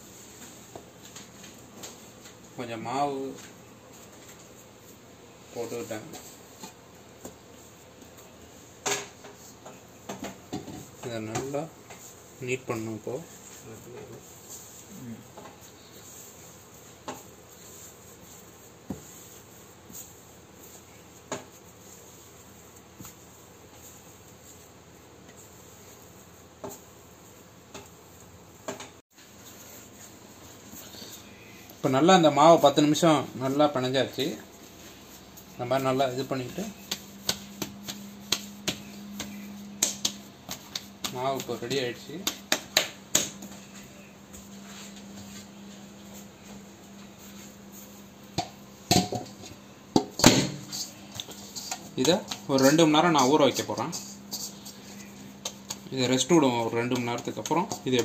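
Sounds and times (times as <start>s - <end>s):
dough being kneaded by hand: 0.0s - 58.0s
faint steady hum: 0.0s - 58.0s
steady hiss: 0.0s - 58.0s.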